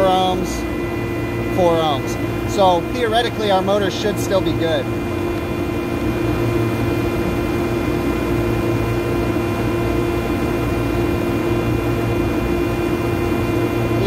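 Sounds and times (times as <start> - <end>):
mechanical drone with low hum: 0.0 - 14.0.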